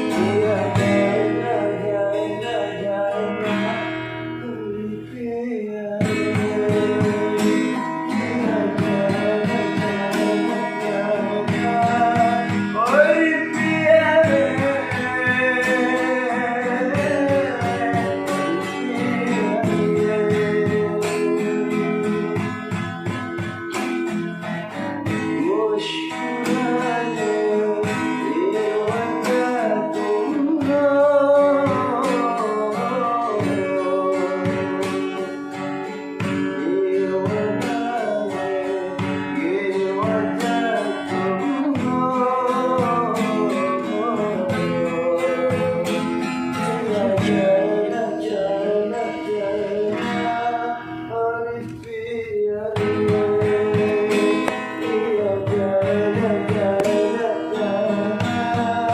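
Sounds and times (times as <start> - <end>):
acoustic guitar strumming: 0.0 - 58.9
person singing: 0.0 - 58.9.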